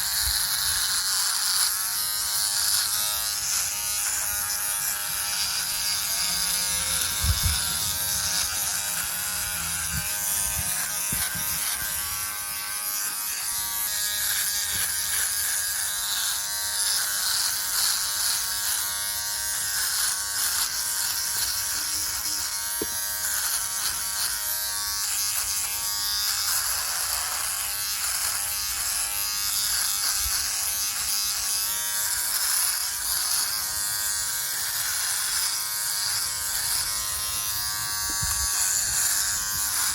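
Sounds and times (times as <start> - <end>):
electric trimmer buzzing: 0.0 - 39.9.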